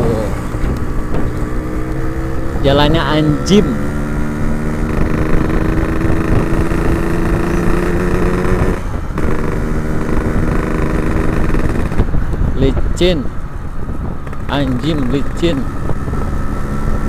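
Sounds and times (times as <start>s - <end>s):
two-stroke motorcycle engine: 0.0s - 17.0s.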